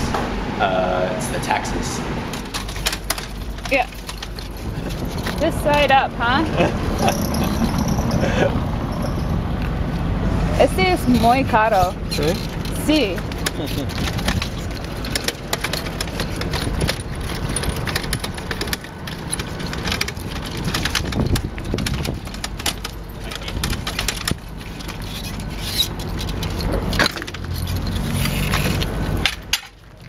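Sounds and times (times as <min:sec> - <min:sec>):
hand truck wheels rattling on cobblestones: 0:02.3 - 0:30.0.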